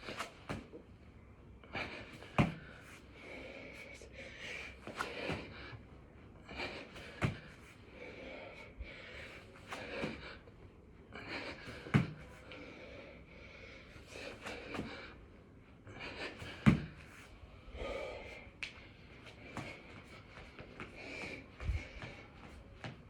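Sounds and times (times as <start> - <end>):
man breathing hard: 1.6 - 22.6.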